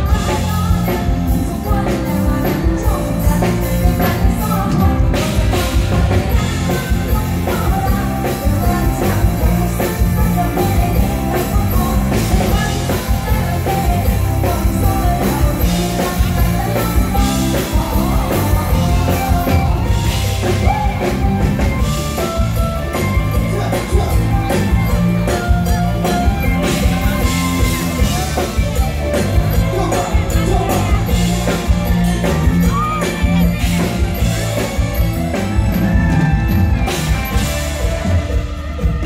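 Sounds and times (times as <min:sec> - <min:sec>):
drum kit beat: 0:00.0 - 0:39.0
live band music: 0:00.0 - 0:39.0
person singing: 0:00.0 - 0:39.0.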